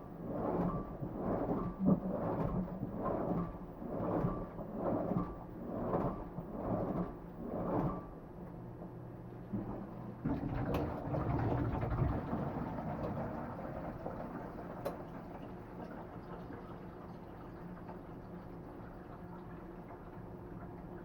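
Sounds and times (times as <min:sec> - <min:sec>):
washing machine low hum: 0:00.0 - 0:21.0
washing machine swishing water: 0:00.0 - 0:21.0.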